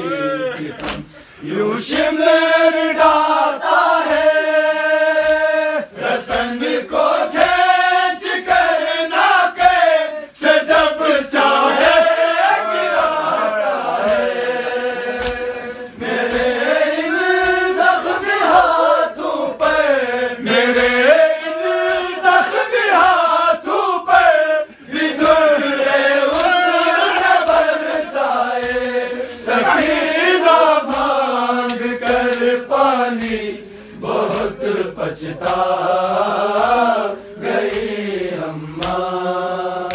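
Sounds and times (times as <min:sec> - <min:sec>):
men chanting a lament: 0:00.0 - 0:39.9
sharp rhythmic beats: 0:01.8 - 0:39.9.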